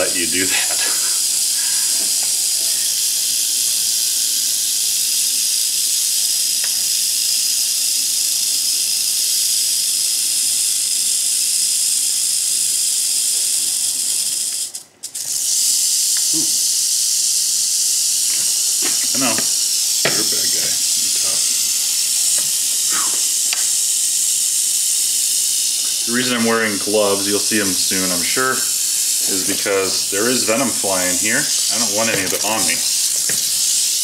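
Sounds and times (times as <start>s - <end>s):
rattlesnake tail rattling: 0.0s - 34.0s.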